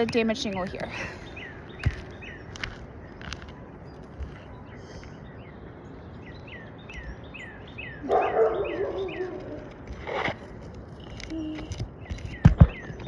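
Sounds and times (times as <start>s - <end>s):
bird chirps: 0.9s - 9.8s, 10.8s - 13.0s.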